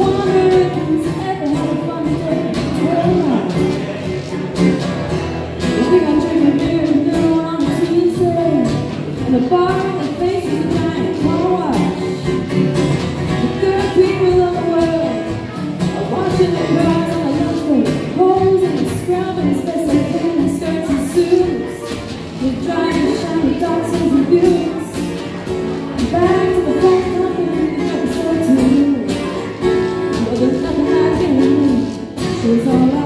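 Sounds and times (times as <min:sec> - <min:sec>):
woman singing: 0:00.0 - 0:03.7, 0:05.6 - 0:12.3, 0:13.3 - 0:25.2, 0:26.0 - 0:33.0
acoustic guitars strummed: 0:00.0 - 0:33.0
shaker rhythm: 0:00.0 - 0:33.0.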